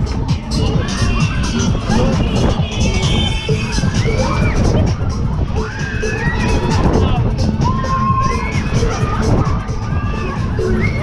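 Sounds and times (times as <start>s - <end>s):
crowd shouting and cheering: 0.0s - 11.0s
loud fairground music with heavy beat: 0.0s - 11.0s.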